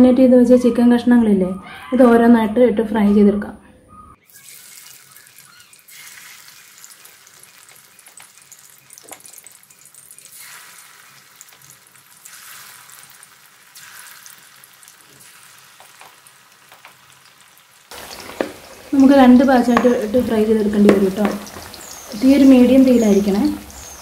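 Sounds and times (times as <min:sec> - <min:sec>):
chicken sizzling in oil: 0:04.2 - 0:24.0.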